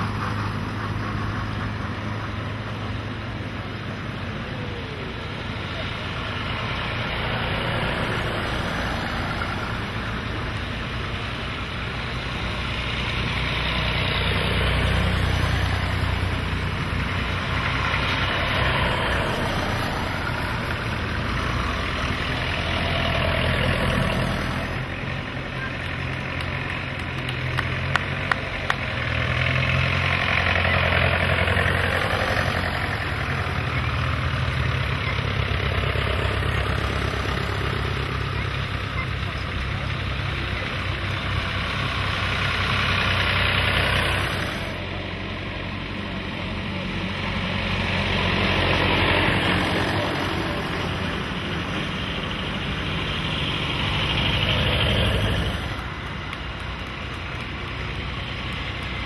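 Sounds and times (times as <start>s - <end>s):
tractor engines passing: 0.0s - 59.0s.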